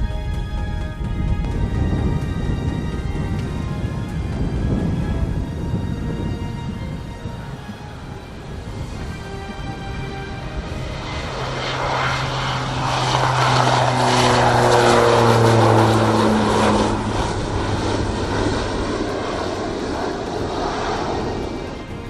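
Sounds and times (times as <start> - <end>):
turboprop aircraft passing: 0.0 - 22.0.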